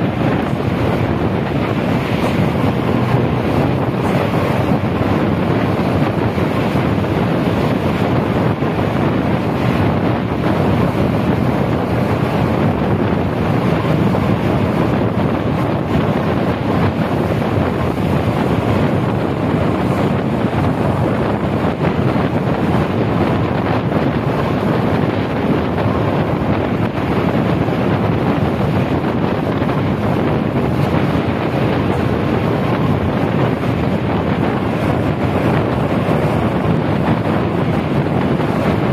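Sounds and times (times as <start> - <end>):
bus road noise on wet road: 0.0 - 38.9
wind buffeting microphone: 0.0 - 38.9.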